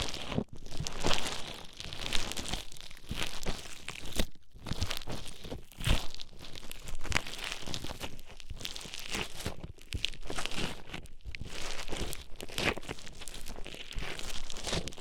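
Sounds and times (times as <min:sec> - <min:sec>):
foam beads crackling and crunching: 0:00.0 - 0:15.0.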